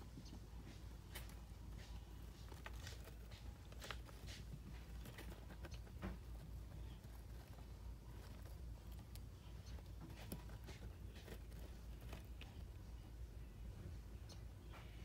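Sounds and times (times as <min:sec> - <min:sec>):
low steady hum: 0:00.0 - 0:15.0
mouse scurrying on bedding: 0:00.1 - 0:15.0.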